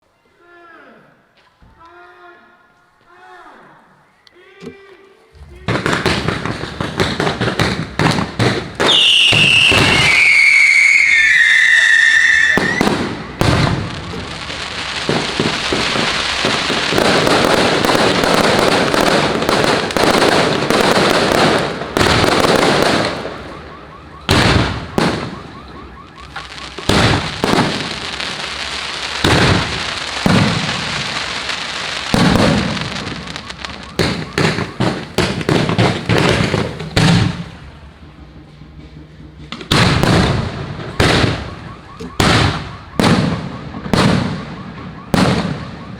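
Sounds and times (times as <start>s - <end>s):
fireworks crackling and banging: 5.3s - 45.9s
firework high whistle: 8.8s - 45.9s.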